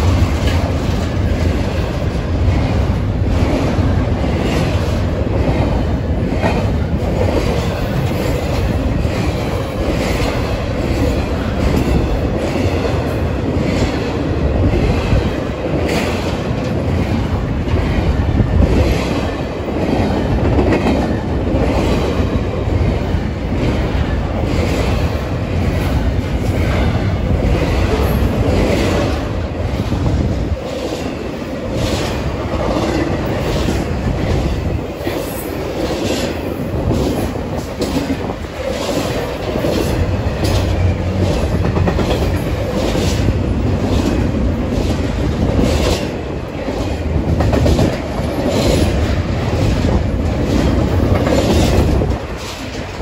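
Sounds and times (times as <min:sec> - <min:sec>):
freight train rumbling past: 0:00.0 - 0:53.0
wheels clicking over rail joints: 0:00.0 - 0:53.0.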